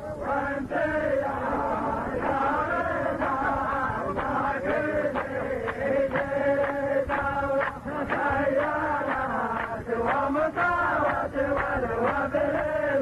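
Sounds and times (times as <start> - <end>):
man chanting sung poetry: 0.0 - 13.0.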